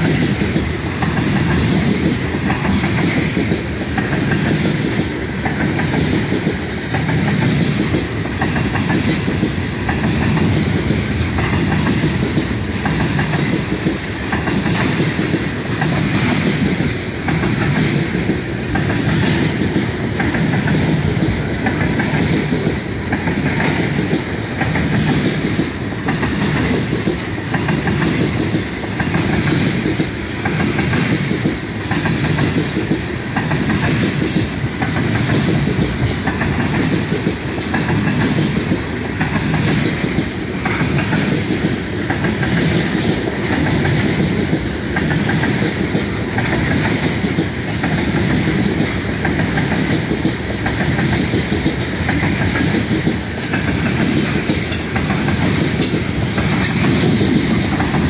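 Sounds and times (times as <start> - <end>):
train wheels clattering over rail joints: 0.0 - 58.0.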